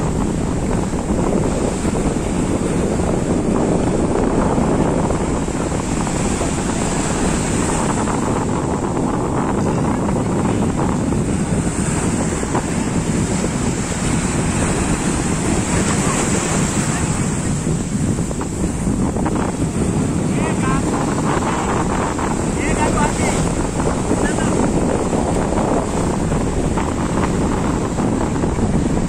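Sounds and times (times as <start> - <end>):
sea waves breaking on beach: 0.0 - 29.0
wind buffeting microphone: 0.0 - 29.0.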